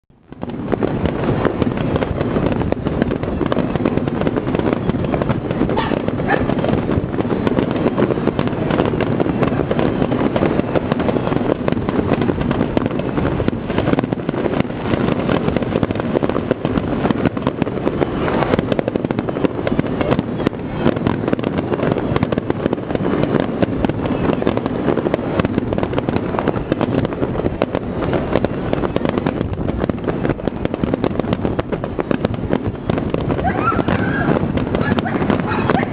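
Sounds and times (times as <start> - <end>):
fireworks booming and crackling: 0.1 - 35.9.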